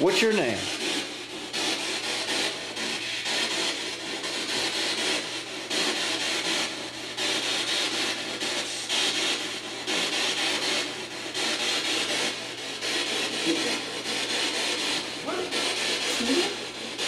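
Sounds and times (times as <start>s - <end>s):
radio static sweeping stations: 0.0s - 17.0s.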